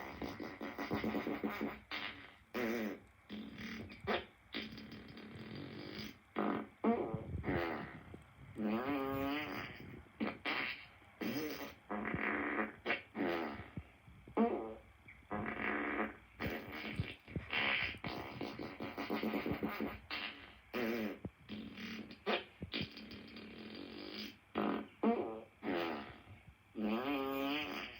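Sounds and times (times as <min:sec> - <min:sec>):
fart sounds: 0:00.0 - 0:27.9.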